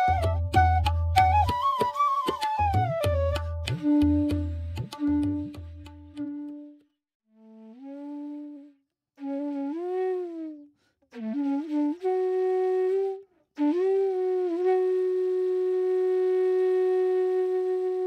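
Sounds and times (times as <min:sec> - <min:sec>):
solo wind instrument melody: 0:00.0 - 0:18.0.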